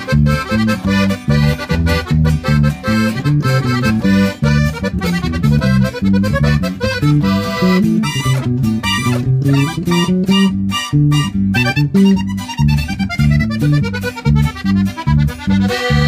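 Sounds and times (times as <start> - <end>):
button accordion melody: 0.0 - 16.0
electric bass line: 0.0 - 16.0
strummed acoustic guitar: 0.0 - 16.0.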